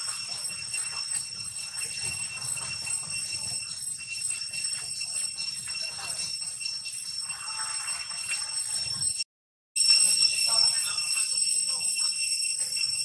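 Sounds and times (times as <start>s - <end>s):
high-pitched insect drone: 0.0s - 9.2s, 9.8s - 13.0s.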